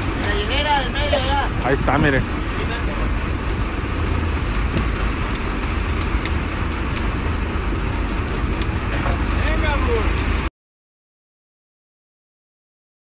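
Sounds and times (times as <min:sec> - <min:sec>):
boat engine rumbling: 0:00.0 - 0:10.5
hiss of wind and water: 0:00.0 - 0:10.5.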